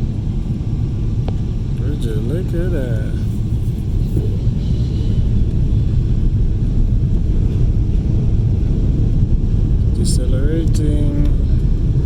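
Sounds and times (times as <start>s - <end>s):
airliner engines rumbling in cabin: 0.0s - 12.0s
rushing airflow: 0.0s - 12.0s.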